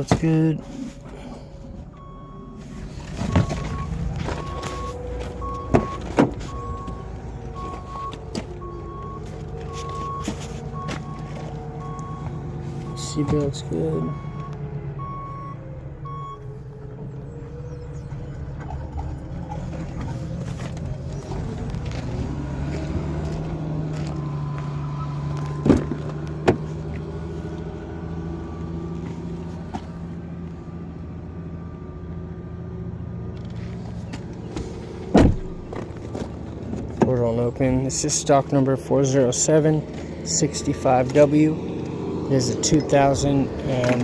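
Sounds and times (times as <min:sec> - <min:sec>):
vehicle engine running: 0:00.0 - 0:44.0
reversing alarm beeping: 0:00.9 - 0:32.8, 0:39.3 - 0:43.7.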